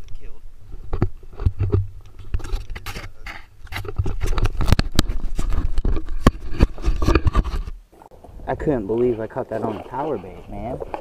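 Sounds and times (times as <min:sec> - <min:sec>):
microphone handling knocks and scrapes: 0:00.6 - 0:11.0.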